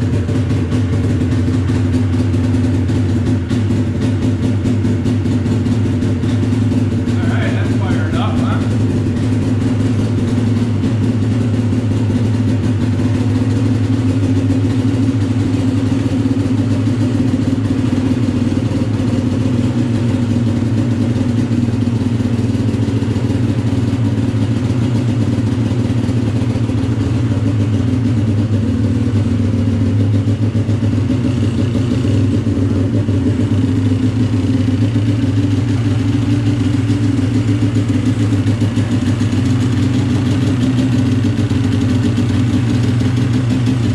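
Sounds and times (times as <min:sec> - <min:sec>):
snowmobile engine idling: 0:00.0 - 0:43.9.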